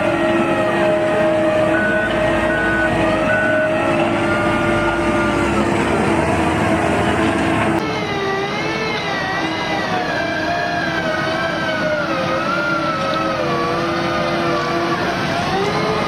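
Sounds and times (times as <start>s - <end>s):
diesel engine and hydraulics running: 0.0s - 16.0s.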